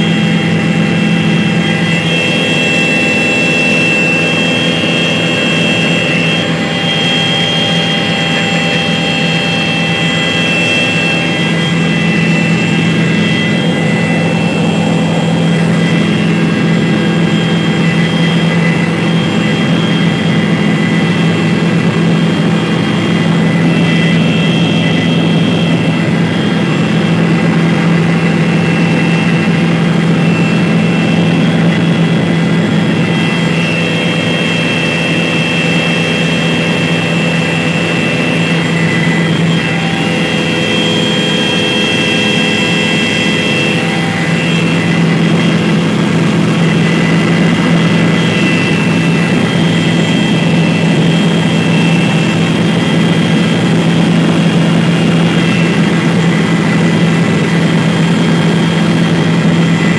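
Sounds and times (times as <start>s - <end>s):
helicopter engine and rotor drone: 0.0s - 59.9s
high whining tones: 0.0s - 59.9s.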